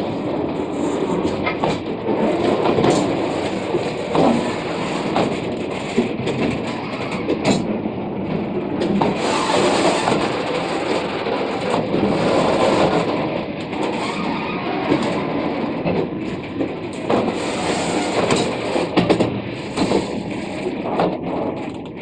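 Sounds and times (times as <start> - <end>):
sharp knocks of train wheels: 0.0 - 7.8, 8.4 - 22.0
freight train wheels rumbling on rails: 0.0 - 22.0.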